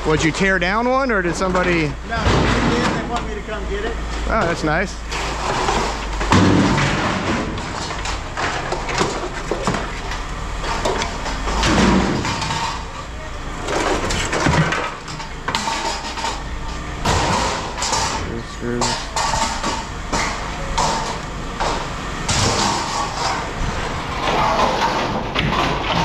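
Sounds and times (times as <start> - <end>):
scrap metal clattering into bins: 1.3 - 3.3, 4.3 - 10.0, 10.6 - 13.0, 13.6 - 26.0.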